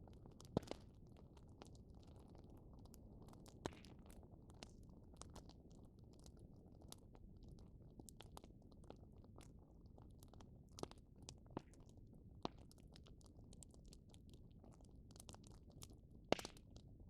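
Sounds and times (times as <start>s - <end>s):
low rumble of flames: 0.0s - 16.8s
bonfire crackling and popping: 0.1s - 16.9s.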